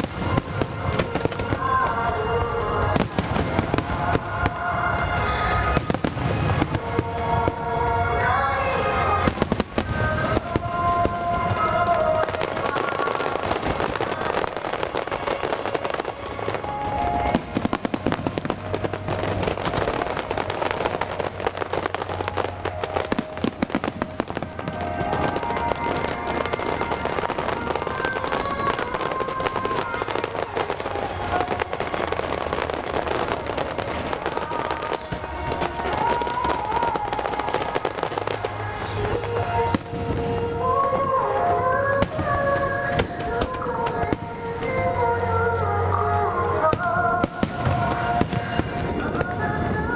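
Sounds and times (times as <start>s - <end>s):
fireworks bursting and crackling: 0.0s - 49.9s
music: 0.0s - 49.9s.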